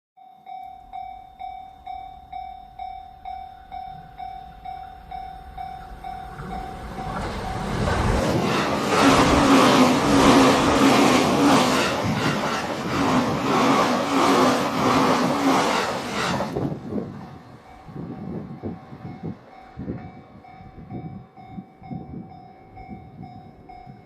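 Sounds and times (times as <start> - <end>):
train rushing past: 1.9 - 24.0.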